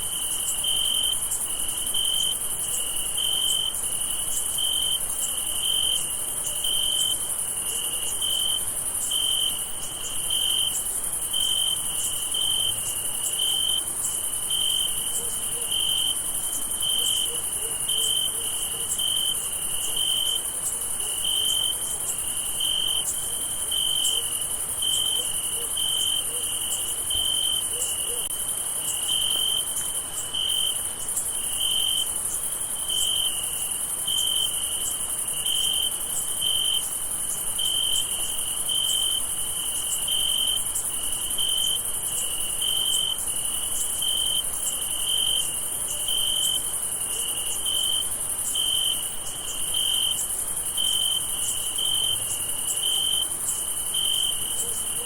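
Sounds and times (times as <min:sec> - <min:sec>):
insect chorus: 0:00.0 - 0:55.0
nearby cricket chirping: 0:00.0 - 0:55.0.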